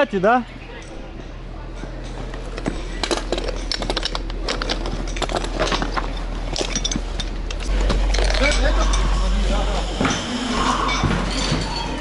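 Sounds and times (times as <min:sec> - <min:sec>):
metal hose couplings clinking: 0:01.8 - 0:12.0.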